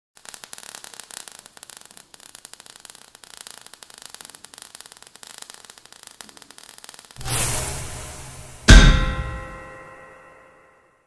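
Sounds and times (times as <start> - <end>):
sparks crackling: 0.2 - 10.2.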